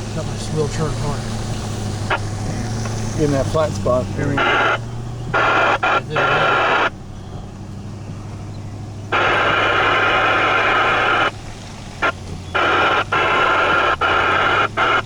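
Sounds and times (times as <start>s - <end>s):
bursts of rushing noise: 0.0s - 15.0s
vehicle engine humming: 0.0s - 15.0s.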